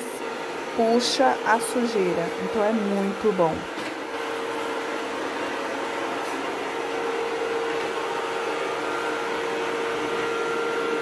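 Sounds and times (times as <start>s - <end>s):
robot vacuum running: 0.0s - 11.0s.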